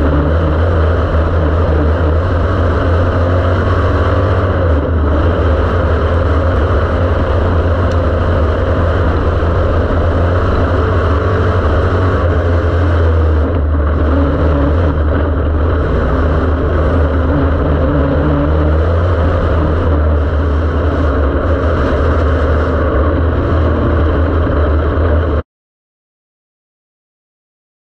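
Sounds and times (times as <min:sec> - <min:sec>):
race car engine running hard: 0:00.0 - 0:25.4.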